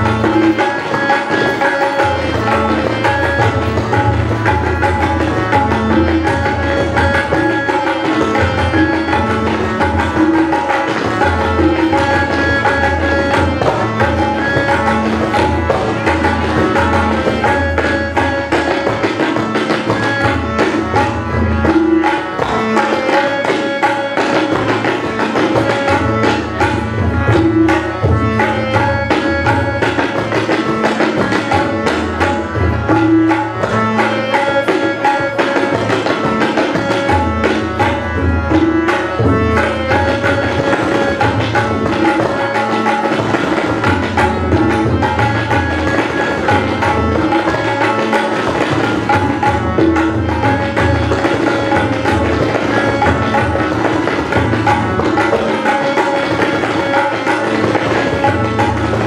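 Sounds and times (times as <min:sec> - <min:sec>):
harmonium melody: 0:00.0 - 0:59.0
tabla drumming: 0:00.0 - 0:59.0.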